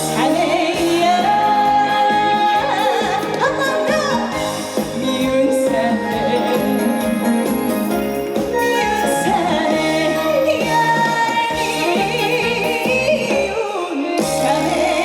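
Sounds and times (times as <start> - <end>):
band playing: 0.0 - 15.0
woman singing: 0.0 - 15.0.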